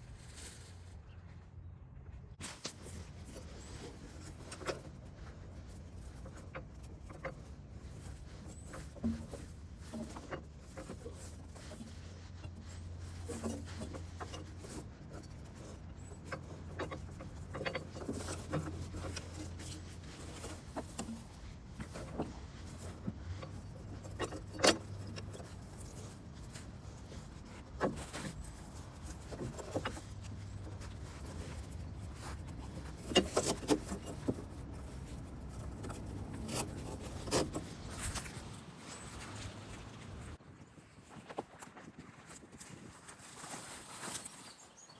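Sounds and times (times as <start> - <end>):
knocks and clatters of handling: 2.4 - 40.4.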